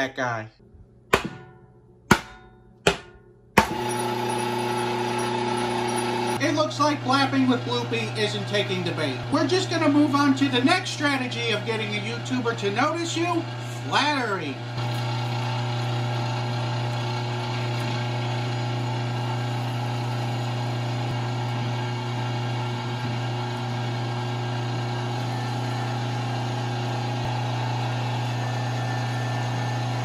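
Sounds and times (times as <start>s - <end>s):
electric meat grinder motor: 3.6s - 30.0s.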